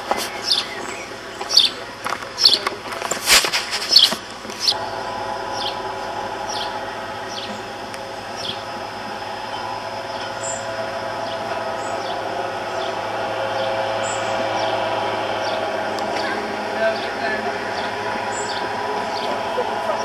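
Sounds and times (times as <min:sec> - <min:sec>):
electric tram motor hum: 0:00.0 - 0:20.0.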